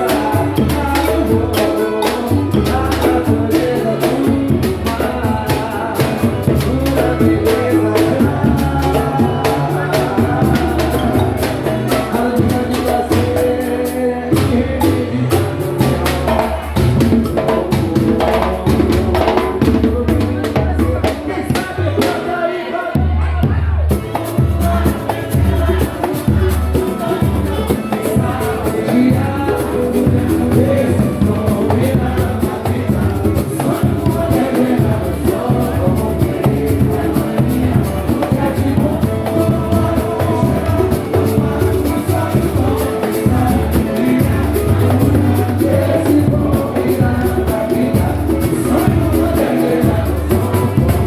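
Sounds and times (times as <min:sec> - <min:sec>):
pulsing bass line: 0:00.0 - 0:20.8, 0:23.5 - 0:51.0
busy percussion: 0:00.0 - 0:51.0
person singing: 0:00.0 - 0:51.0.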